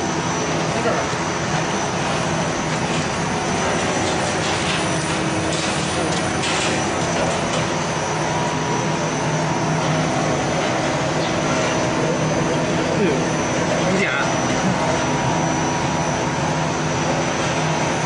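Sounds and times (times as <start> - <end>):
factory machinery hum: 0.0 - 18.0.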